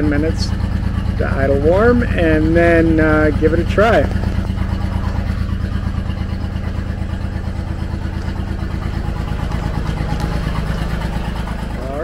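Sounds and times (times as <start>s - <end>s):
gas engine idling: 0.0s - 12.0s.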